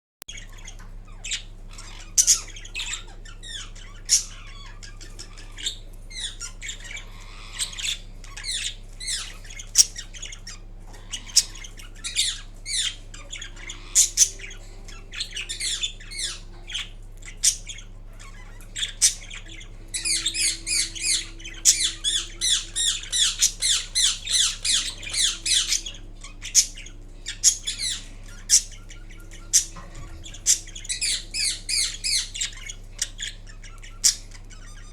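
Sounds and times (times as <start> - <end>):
parakeet squawks and chirps: 0.3 - 34.9
rapid chattering calls: 0.3 - 34.9.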